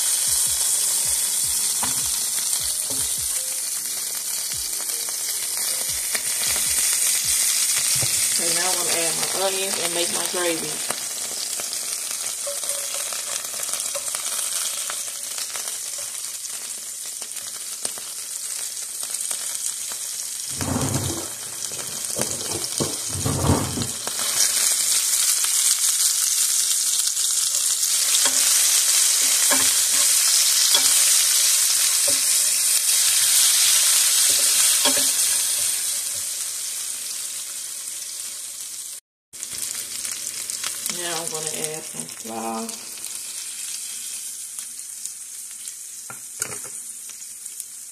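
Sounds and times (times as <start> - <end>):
onions sizzling in a frying pan: 0.0 - 47.9.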